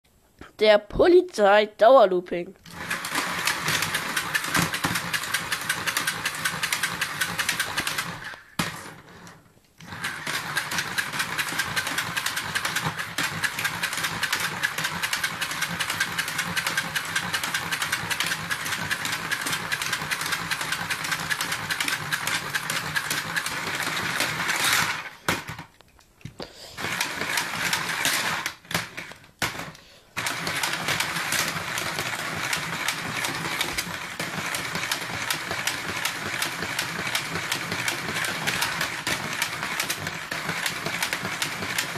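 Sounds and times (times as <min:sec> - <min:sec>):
slot car motor whirring: 0:02.7 - 0:08.9, 0:09.8 - 0:25.7, 0:26.8 - 0:41.9.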